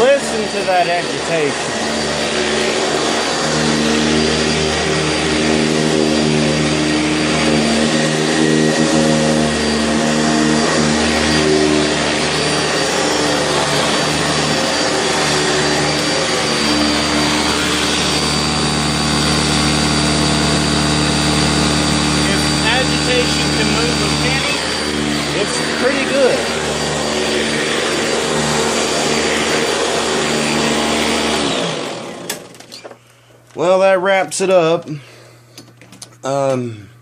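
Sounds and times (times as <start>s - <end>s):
upright vacuum running on carpet: 0.0s - 32.7s.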